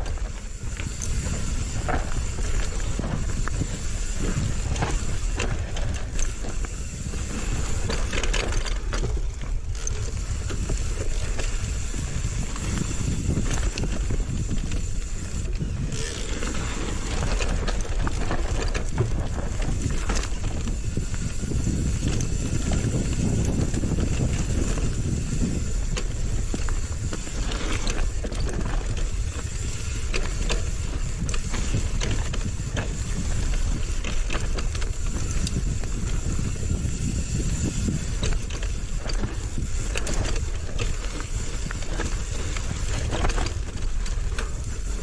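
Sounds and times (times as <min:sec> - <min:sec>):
bike rattling and knocking: 0:00.0 - 0:45.0
tyres rumbling over dirt: 0:00.0 - 0:45.0.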